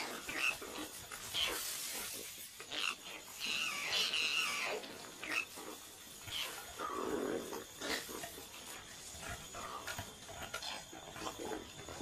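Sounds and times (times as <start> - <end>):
koalas grunting and snarling: 0.0 - 12.0.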